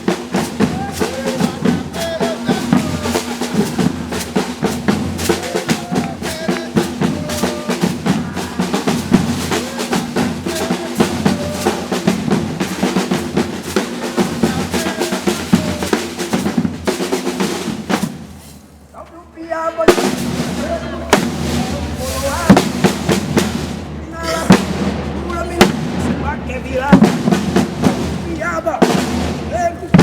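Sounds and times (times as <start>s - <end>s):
bass drums: 0.0s - 18.4s, 19.9s - 30.0s
snare drum rolls: 0.0s - 18.5s, 19.8s - 30.0s.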